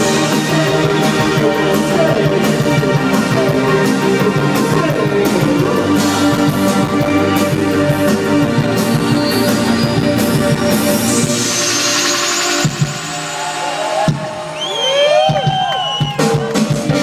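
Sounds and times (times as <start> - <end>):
live band music: 0.0 - 17.0.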